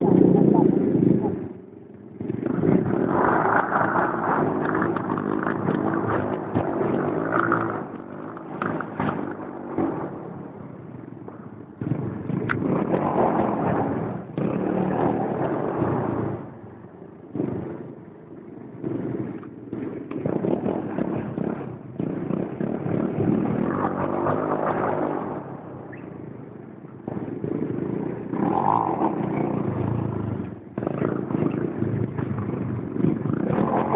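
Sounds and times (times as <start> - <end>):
motorbike engine revving: 0.0 - 33.9.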